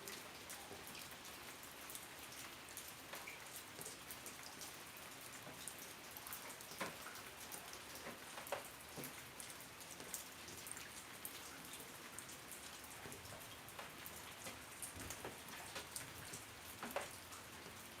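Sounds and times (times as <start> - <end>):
rain on a hard surface: 0.0 - 18.0.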